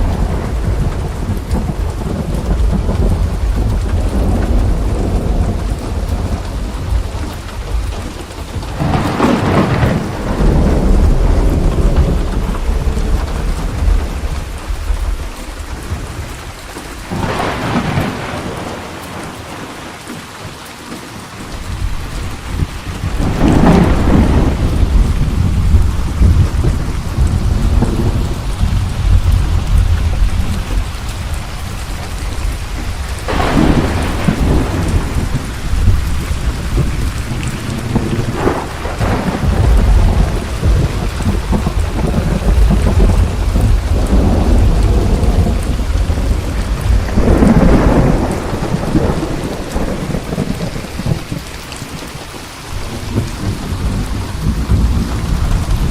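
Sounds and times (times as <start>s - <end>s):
rolling thunder with sharp cracks: 0.0s - 16.2s, 17.0s - 19.9s, 21.7s - 51.5s
heavy rain: 0.0s - 55.9s.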